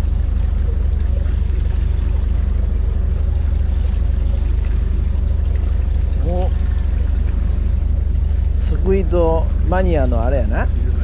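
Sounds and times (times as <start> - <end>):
boat engine droning: 0.0 - 11.0
faint hum: 0.0 - 11.0.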